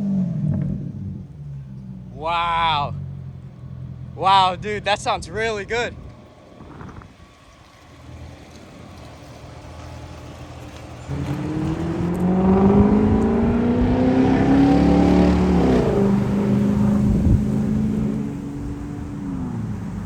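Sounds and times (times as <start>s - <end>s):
car engine accelerating: 0.0s - 4.9s, 5.9s - 20.0s
car engine rumbling: 0.0s - 20.0s.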